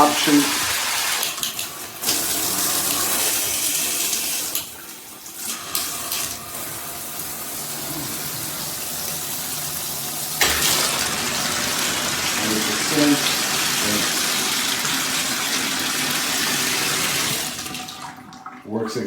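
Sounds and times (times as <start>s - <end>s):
water spraying from shower head: 0.0s - 4.7s, 5.4s - 17.6s.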